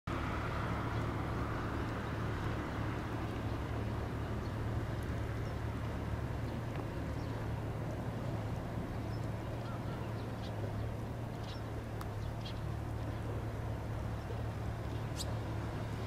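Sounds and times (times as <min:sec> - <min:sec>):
distant road traffic rumble: 0:00.1 - 0:16.0.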